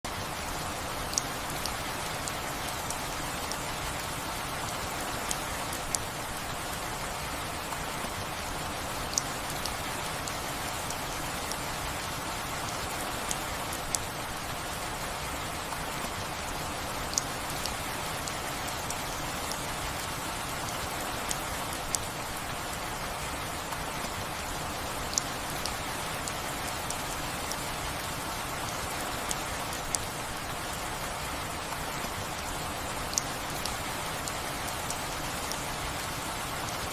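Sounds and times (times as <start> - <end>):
steady rain: 0.0 - 36.9.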